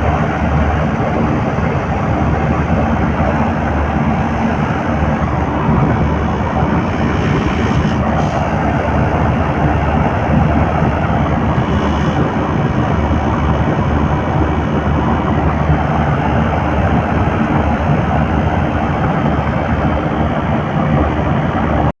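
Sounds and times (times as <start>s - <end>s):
compressor running: 0.0s - 21.8s.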